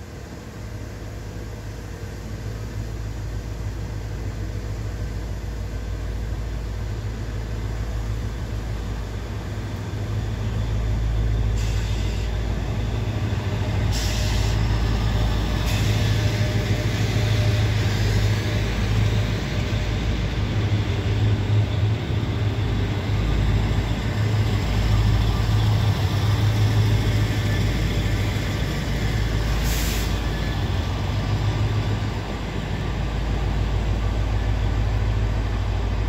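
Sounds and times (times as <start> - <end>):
train diesel engines droning: 0.0 - 36.0.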